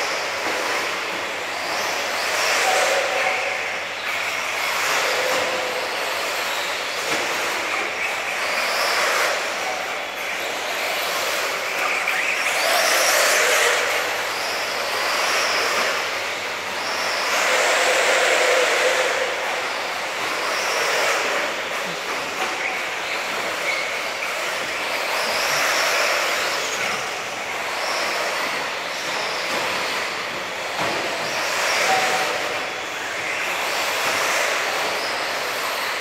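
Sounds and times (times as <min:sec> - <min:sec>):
rc car motors whining: 0:00.0 - 0:36.0.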